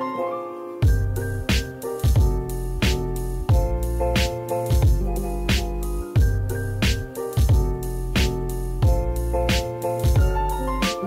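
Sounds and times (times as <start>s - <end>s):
held keyboard chords: 0.0s - 11.0s
kick drum beat: 0.8s - 11.0s.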